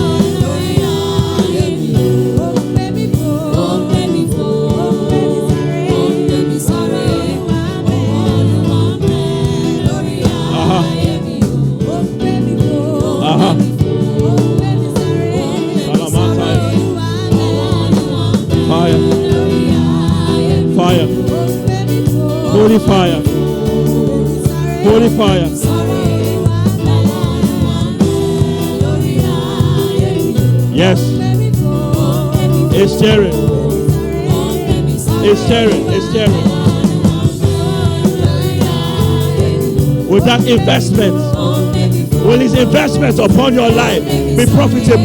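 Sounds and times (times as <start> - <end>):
person singing: 0.0 - 45.0
sustained gospel chords: 0.0 - 45.0.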